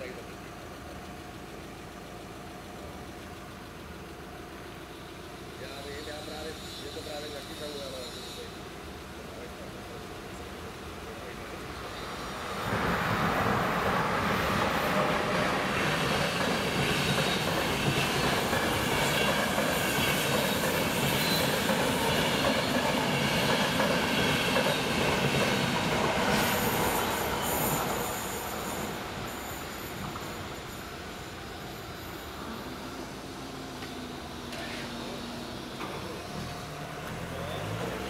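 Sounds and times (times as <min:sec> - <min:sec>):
train wheels on rails: 0:00.0 - 0:38.0.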